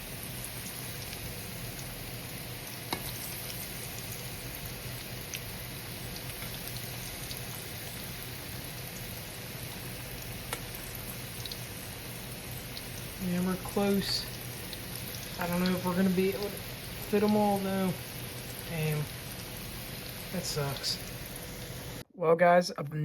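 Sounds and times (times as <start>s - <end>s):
food deep-frying in oil: 0.0s - 22.1s.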